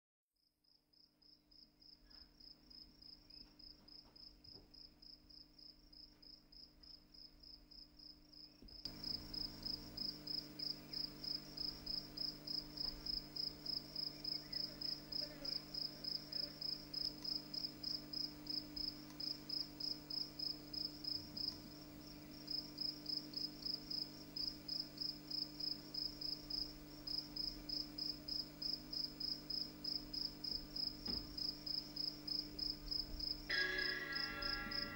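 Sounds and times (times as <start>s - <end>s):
cricket chirping: 0.6s - 34.9s
faint low hum: 1.1s - 34.9s.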